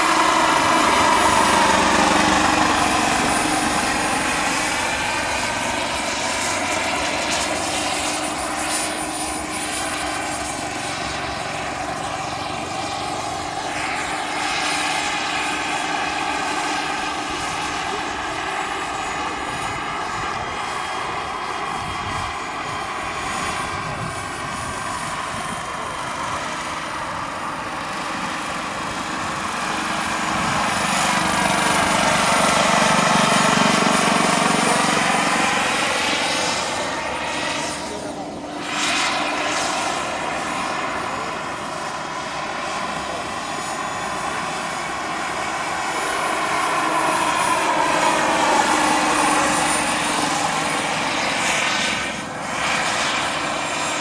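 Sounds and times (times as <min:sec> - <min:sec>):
helicopter rotor: 0:00.0 - 0:54.0
model helicopter turbine whining: 0:00.0 - 0:54.0.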